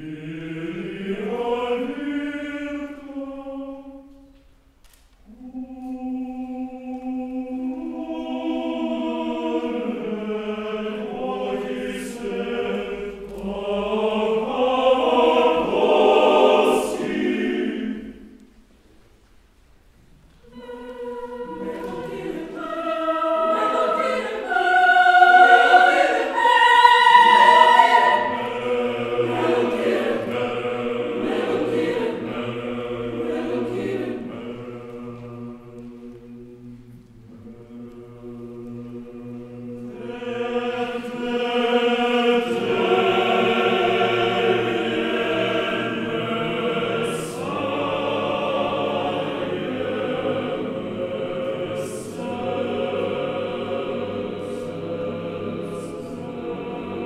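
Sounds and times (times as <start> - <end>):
mixed choir singing unaccompanied: 0.0 - 4.3, 5.3 - 18.4, 20.4 - 57.0.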